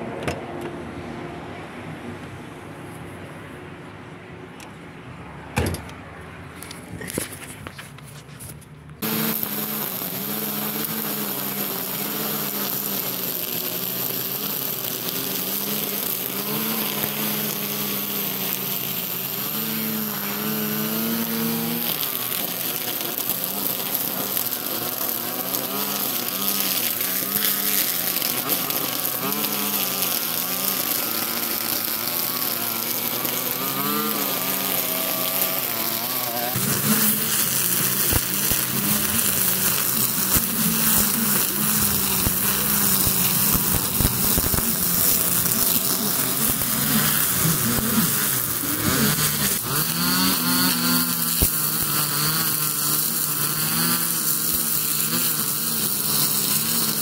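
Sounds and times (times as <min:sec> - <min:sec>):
string trimmer buzzing: 0:09.0 - 0:57.0.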